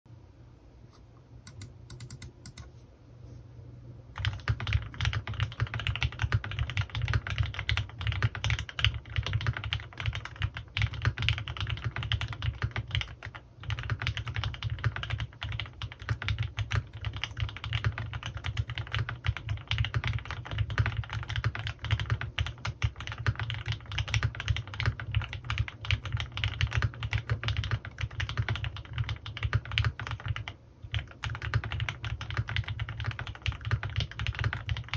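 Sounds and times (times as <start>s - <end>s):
mechanical keyboard typing: 1.5s - 2.7s, 4.2s - 34.9s.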